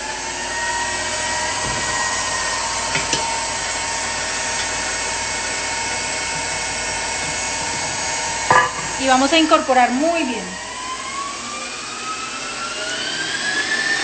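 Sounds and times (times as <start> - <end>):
stand mixer motor whine: 0.0 - 14.0.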